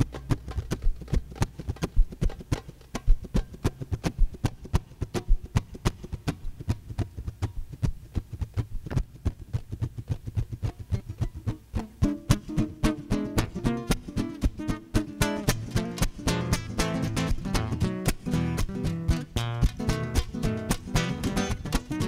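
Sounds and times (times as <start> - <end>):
hand drum strikes: 0.0 - 22.0.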